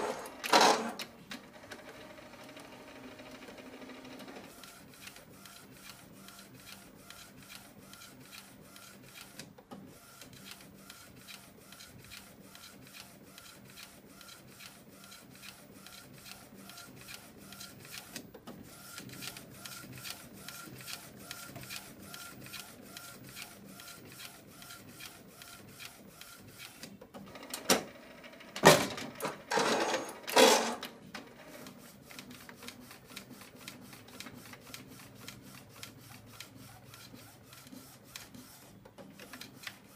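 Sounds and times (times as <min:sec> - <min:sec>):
printer feed mechanism whirring: 0:00.0 - 0:09.4, 0:10.1 - 0:39.9.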